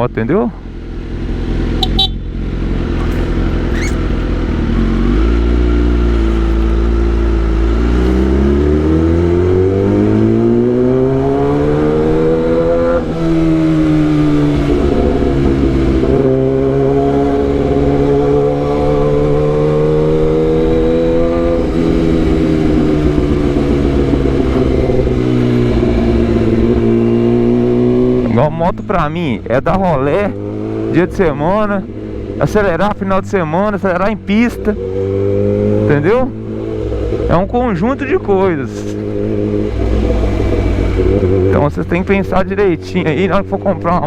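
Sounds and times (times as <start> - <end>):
motorcycle engine accelerating: 0.9 - 44.0.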